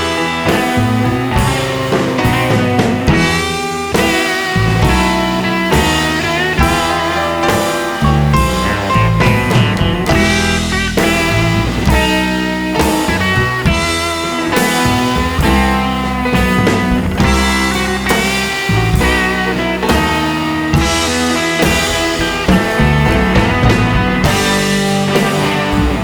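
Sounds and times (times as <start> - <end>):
drums: 0.0 - 26.0
electric guitar: 0.0 - 26.0
rock music: 0.0 - 26.0.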